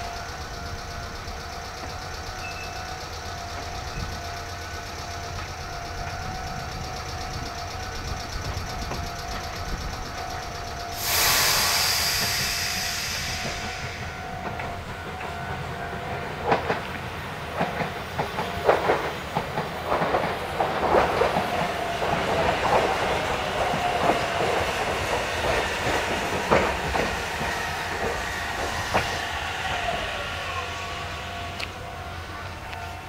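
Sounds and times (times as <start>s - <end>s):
train wheels clicking over rail joints: 0.0s - 33.0s.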